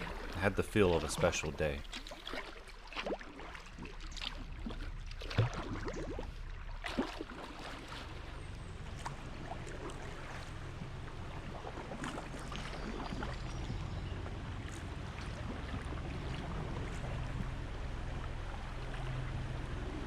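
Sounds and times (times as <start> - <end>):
kayak paddle splashing: 0.0 - 19.8
river rumble: 0.0 - 20.0.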